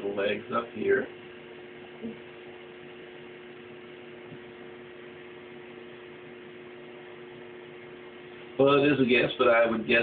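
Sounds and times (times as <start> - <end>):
electrical hum with hiss: 0.0 - 10.0.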